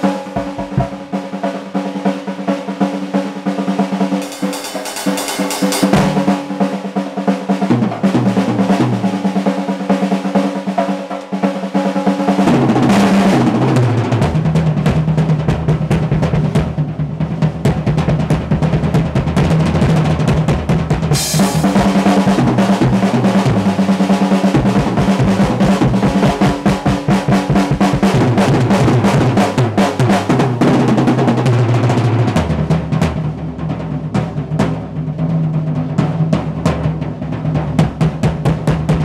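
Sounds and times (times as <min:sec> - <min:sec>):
drum kit rolls: 0:00.0 - 0:39.0.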